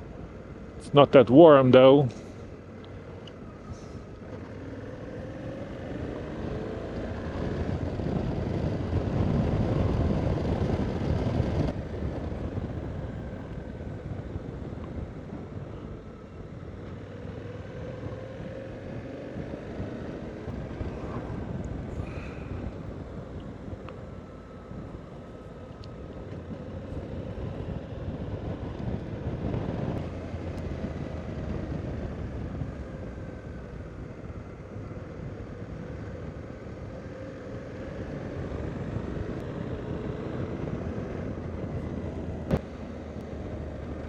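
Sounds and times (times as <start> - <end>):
wind and road noise: 0.0 - 44.0.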